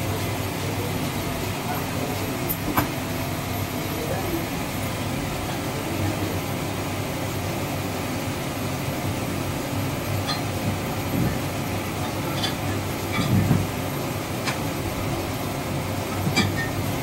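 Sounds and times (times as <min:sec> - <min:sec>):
electric fan running: 0:00.0 - 0:17.0
workshop machinery hum: 0:00.0 - 0:17.0.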